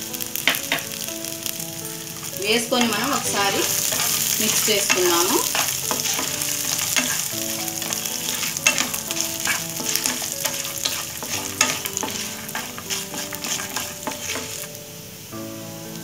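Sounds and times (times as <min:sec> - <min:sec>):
seeds sizzling in hot oil: 0:00.0 - 0:16.0
spatula scraping a pan: 0:00.5 - 0:14.7.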